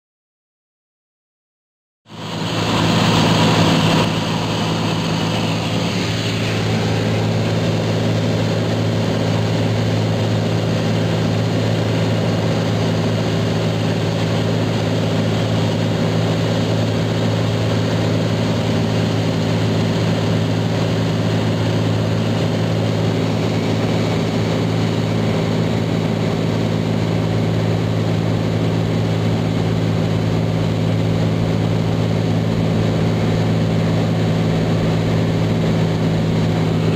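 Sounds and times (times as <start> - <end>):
airplane engine and propeller drone: 2.1 - 36.9.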